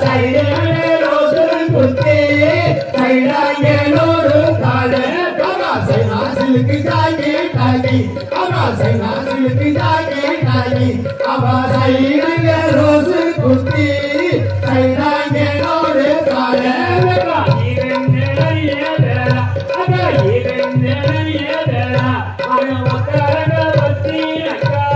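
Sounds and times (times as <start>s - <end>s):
folk singing: 0.0s - 24.9s
steady drum beat: 0.0s - 24.9s.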